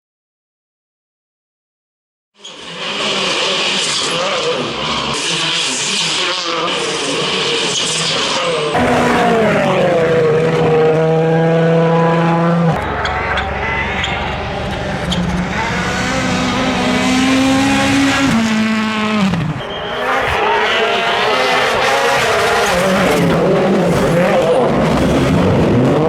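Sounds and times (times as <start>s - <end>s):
rally car engines at full throttle: 2.4s - 26.0s.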